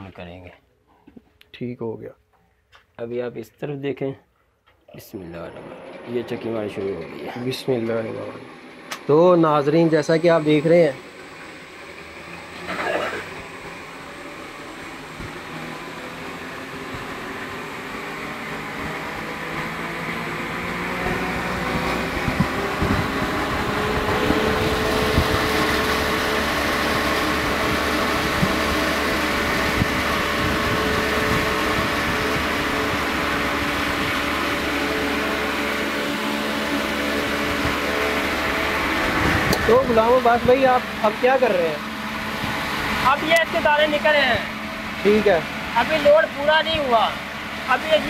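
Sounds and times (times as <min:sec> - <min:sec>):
electric motor humming: 0:05.2 - 0:48.0.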